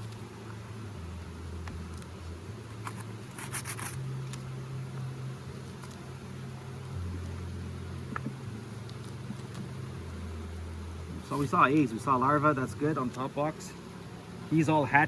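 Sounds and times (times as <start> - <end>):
honeybees humming: 0.0 - 15.0.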